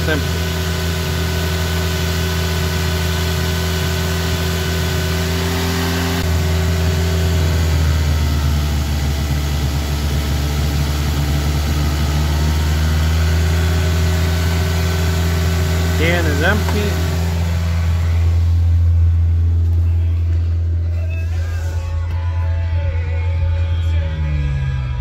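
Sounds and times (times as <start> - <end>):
car engine running at raised revs: 0.0 - 22.2.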